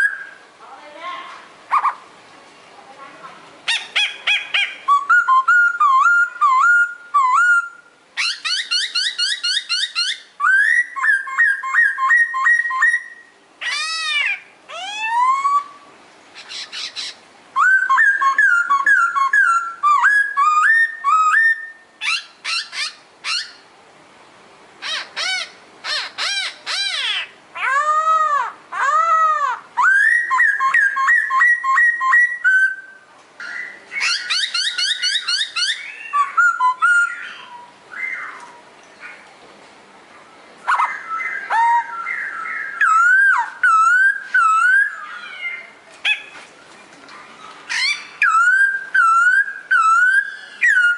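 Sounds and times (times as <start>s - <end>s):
songbird singing: 0.0s - 39.4s, 40.1s - 50.9s.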